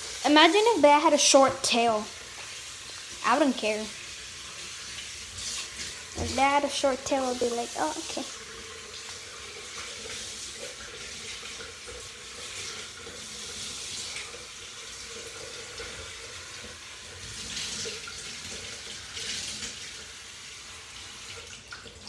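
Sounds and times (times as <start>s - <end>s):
tap water running into bath: 0.0s - 22.0s.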